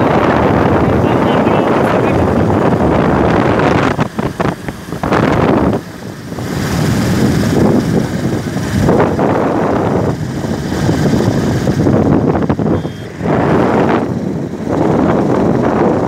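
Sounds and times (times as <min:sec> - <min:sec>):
motorcycle ride noise: 0:00.0 - 0:16.0
wind buffeting microphone: 0:00.0 - 0:16.0.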